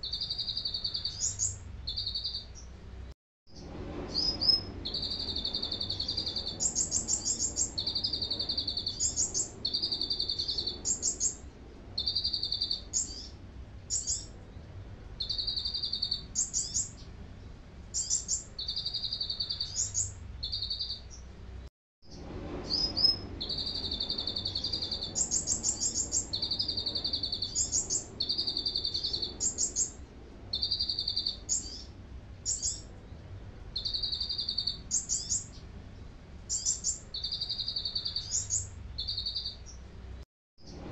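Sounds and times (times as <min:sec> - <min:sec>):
bird singing buzzy trills: 0:00.0 - 0:40.9.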